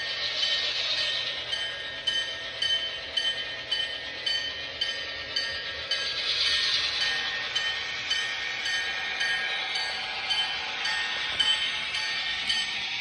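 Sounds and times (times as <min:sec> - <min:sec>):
model locomotive diesel engine sound: 0:00.0 - 0:13.0.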